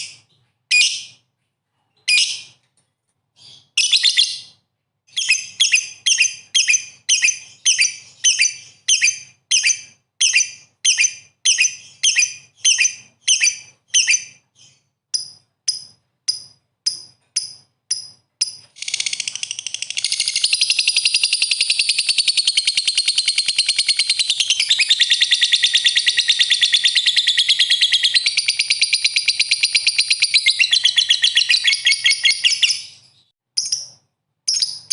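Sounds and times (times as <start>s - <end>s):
bird chirping and trilling: 3.4s - 34.9s.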